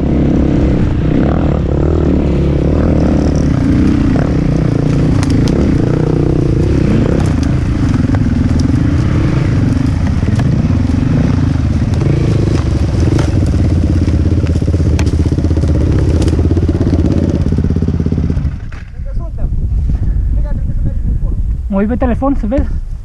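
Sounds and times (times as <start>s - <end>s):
dirt bike engines revving: 0.0s - 22.8s.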